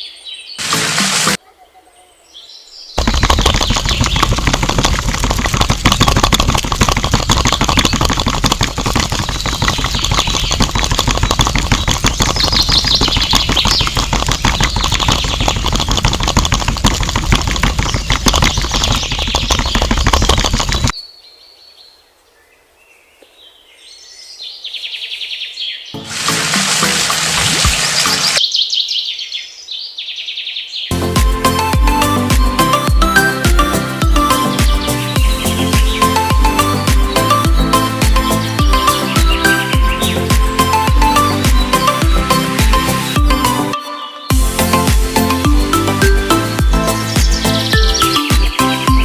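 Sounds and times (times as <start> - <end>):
birds chirping: 0.0 - 16.8, 17.5 - 49.0.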